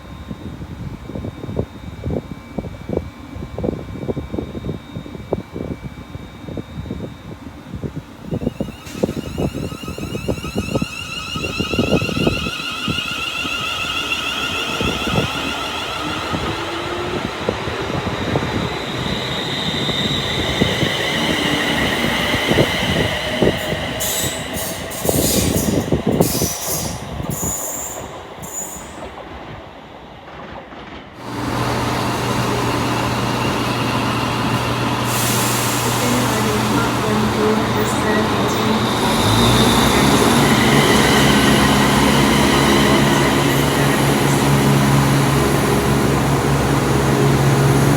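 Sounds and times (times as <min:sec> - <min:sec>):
high whining tones: 0:06.5 - 0:29.1, 0:31.2 - 0:47.9
train wheels clicking on rails: 0:07.8 - 0:47.9.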